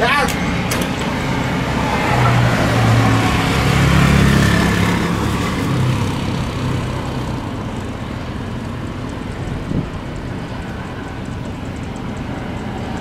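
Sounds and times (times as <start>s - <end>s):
distant jet engines at takeoff: 0.0s - 13.0s.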